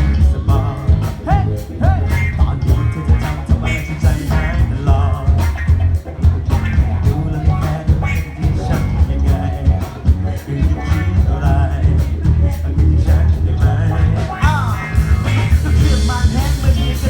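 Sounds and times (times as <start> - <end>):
band playing pop-rock song: 0.0 - 17.0
drums keeping steady beat: 0.0 - 17.0
heavy bass: 0.0 - 17.0
wavering melody line: 0.0 - 17.0.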